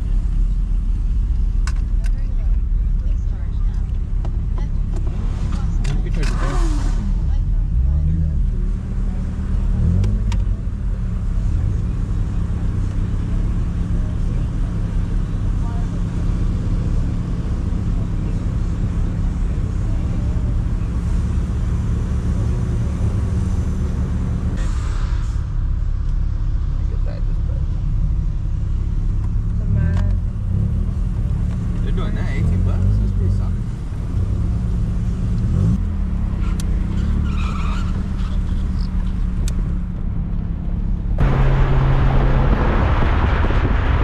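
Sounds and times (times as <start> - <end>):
car engine drone: 0.0 - 44.0
road noise: 0.0 - 44.0.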